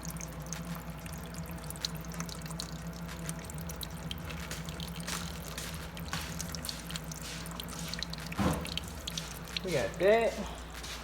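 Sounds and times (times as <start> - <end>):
water trickling and dripping: 0.0 - 10.5.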